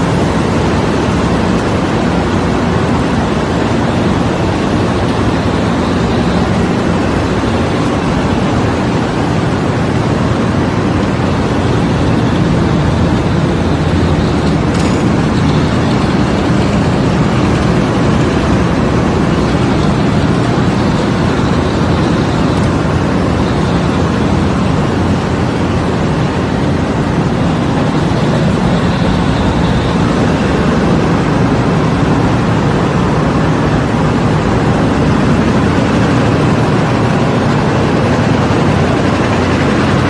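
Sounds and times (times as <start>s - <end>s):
production machinery din: 0.0s - 40.0s.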